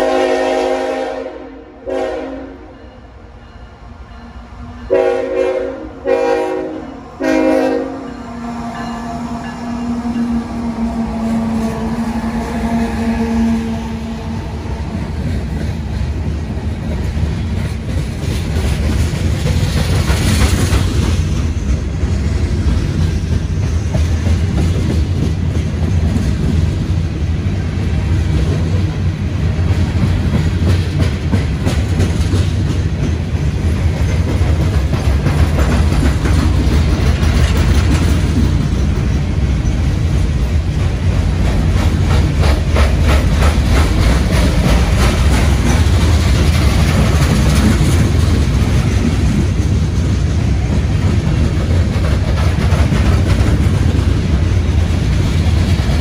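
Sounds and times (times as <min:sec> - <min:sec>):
steel wheels rumbling on rail: 0:00.0 - 0:56.0
wheels clickety-clack on rail joints: 0:07.4 - 0:56.0.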